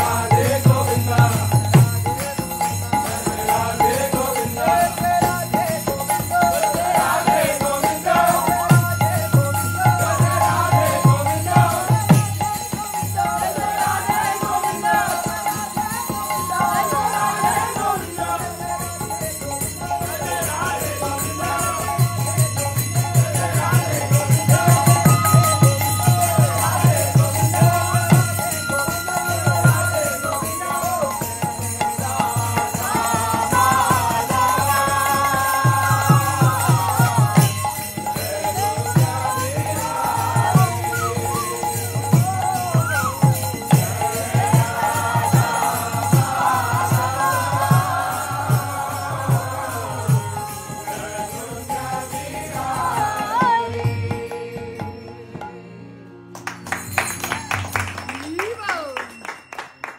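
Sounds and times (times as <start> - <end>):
jingling hand cymbals: 0.0 - 55.1
voices singing: 0.0 - 55.6
harmonium: 0.0 - 59.9.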